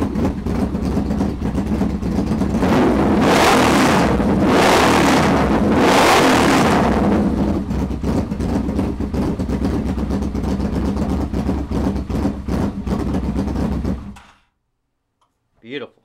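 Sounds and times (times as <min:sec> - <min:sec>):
motorcycle engine idling and revving: 0:00.0 - 0:14.3.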